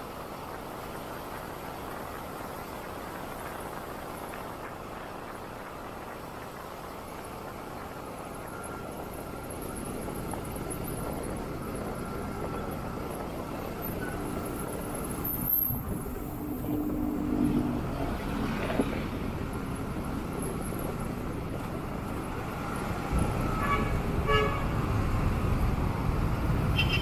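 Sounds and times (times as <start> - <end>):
motorcycle engine and road noise: 0.0 - 27.0
truck engine drone: 0.3 - 26.8.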